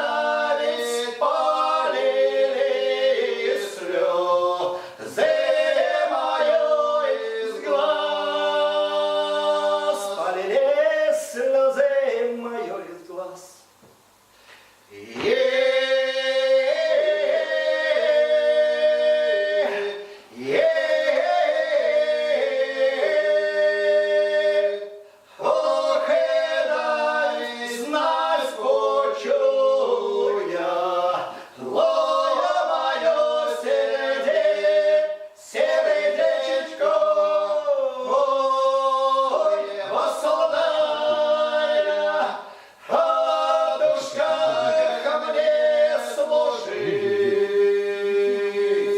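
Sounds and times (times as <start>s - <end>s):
folk ensemble singing unaccompanied: 0.0s - 13.5s, 14.4s - 48.9s.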